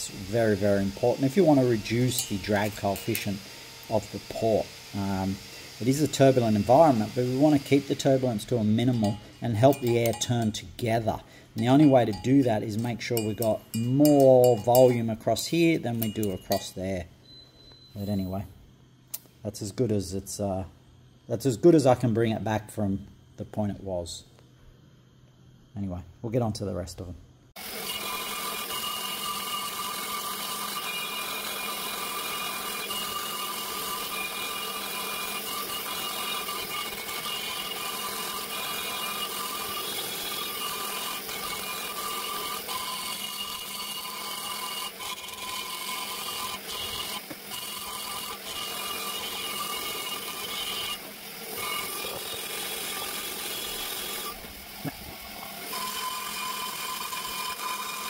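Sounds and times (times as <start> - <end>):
die grinder whining: 0.0 - 16.7, 27.6 - 58.0.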